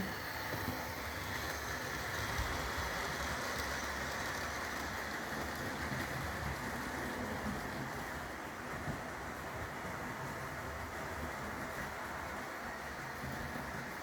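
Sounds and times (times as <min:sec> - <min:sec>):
model trains whirring on rails: 0:00.0 - 0:14.0.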